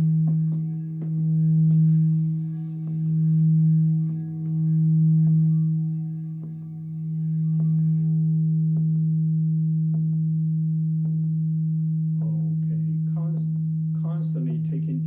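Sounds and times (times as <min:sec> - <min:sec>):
crystal singing bowl tone: 0:00.0 - 0:14.8.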